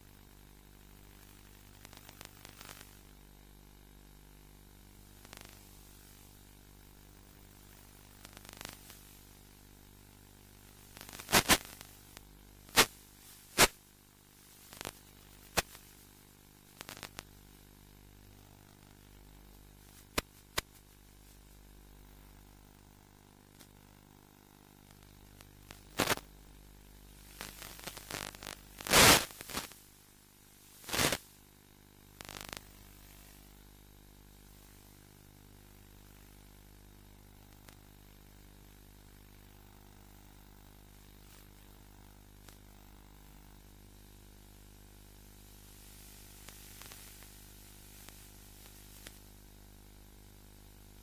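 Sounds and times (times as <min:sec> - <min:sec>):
faint hiss and hum: 0:00.0 - 0:51.0
sharp static crackles: 0:00.0 - 0:51.0.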